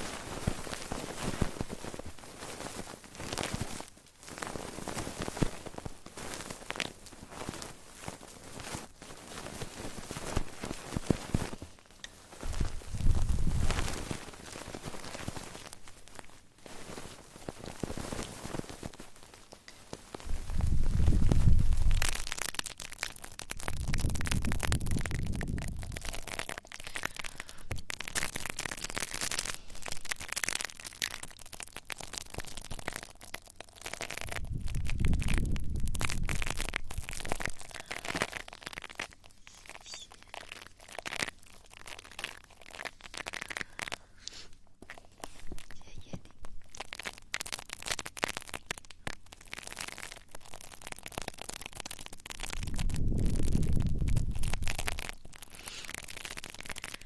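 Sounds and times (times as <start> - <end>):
crackling and scratching on microphone: 0.0 - 57.0
rapid small clicks: 0.0 - 57.0.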